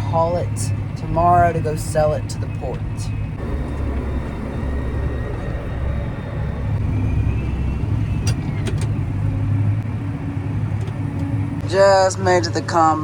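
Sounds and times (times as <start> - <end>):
tractor diesel engine droning: 0.0 - 13.0.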